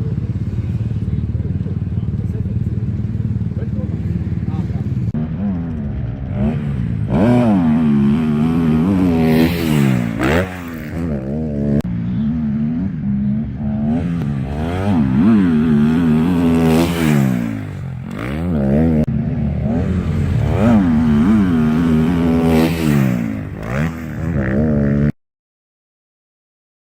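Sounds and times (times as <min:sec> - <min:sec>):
motorcycle engine revving: 0:00.0 - 0:25.1.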